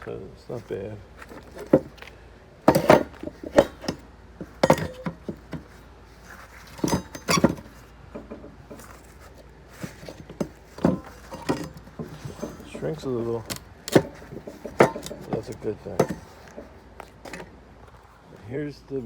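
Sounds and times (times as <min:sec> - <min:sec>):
steel frame clunking on plywood: 0:01.2 - 0:05.8, 0:06.6 - 0:17.7.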